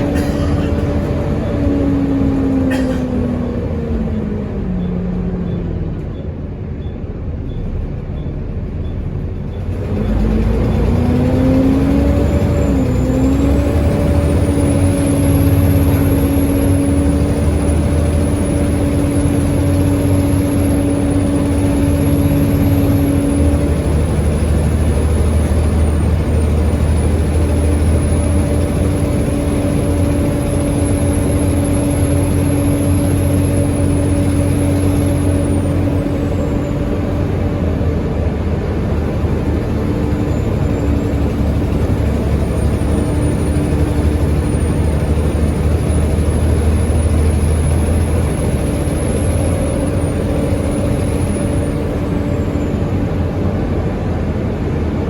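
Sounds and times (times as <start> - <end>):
bus engine pulling away: 0.0 - 55.0
high turbo whine: 0.0 - 55.0.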